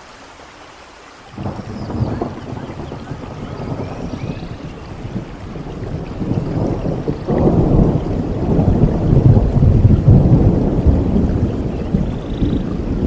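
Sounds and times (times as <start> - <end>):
steady rain: 0.0 - 13.0
thunder rumbling: 1.4 - 13.0.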